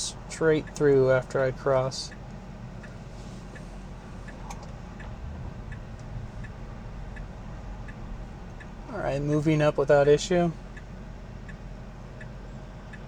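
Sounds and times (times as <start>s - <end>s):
car cabin rumble: 0.0s - 13.0s
turn signal ticking: 0.0s - 13.0s.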